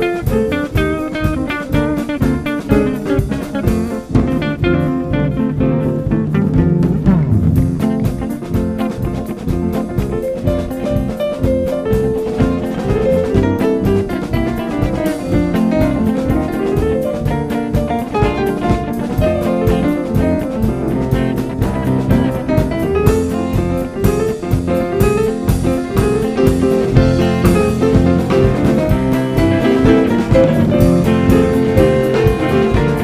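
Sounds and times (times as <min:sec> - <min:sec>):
drum kit: 0:00.0 - 0:33.0
electric bass guitar: 0:00.0 - 0:33.0
guitar: 0:00.0 - 0:33.0.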